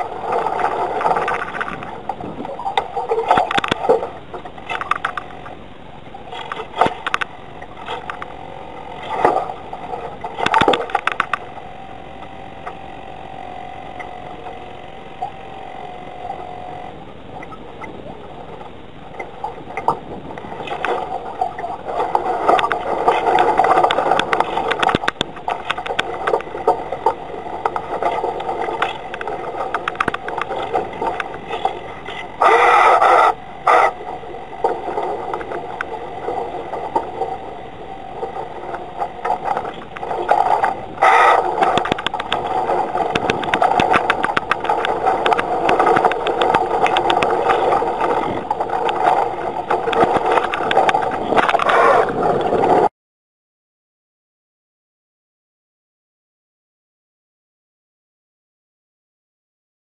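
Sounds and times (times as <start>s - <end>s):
water rushing: 0.0s - 52.9s
wind: 0.0s - 52.9s.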